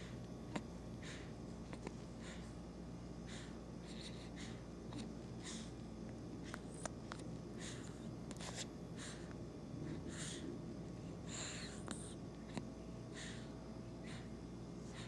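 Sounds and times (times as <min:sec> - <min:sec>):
snuffly nose breathing: 0:00.0 - 0:01.4, 0:02.1 - 0:02.6, 0:03.2 - 0:05.8, 0:06.4 - 0:10.6, 0:11.2 - 0:15.0.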